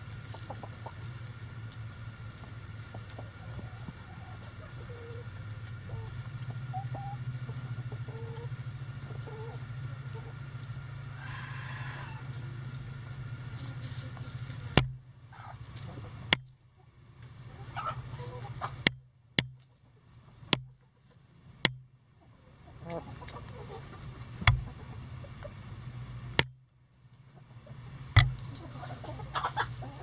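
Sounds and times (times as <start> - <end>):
hens clucking softly: 0.0 - 18.8, 22.1 - 25.8, 27.2 - 30.0
steady low hum: 0.0 - 30.0.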